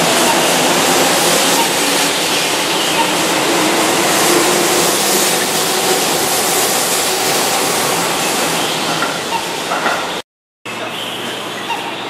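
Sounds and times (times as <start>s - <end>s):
train wheels rushing on rail: 0.0s - 11.5s.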